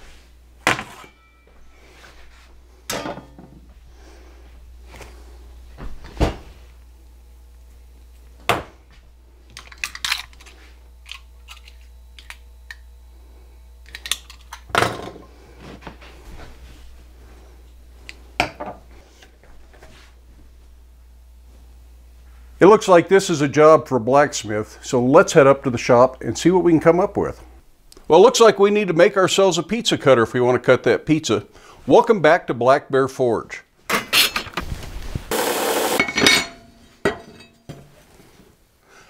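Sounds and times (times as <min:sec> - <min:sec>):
steady low hum: 0:00.0 - 0:32.6.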